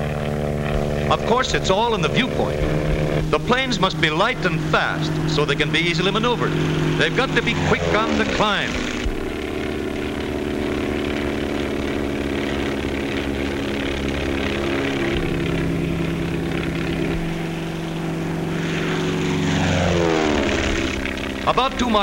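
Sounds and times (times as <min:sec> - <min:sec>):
propeller engines droning: 0:00.0 - 0:22.0.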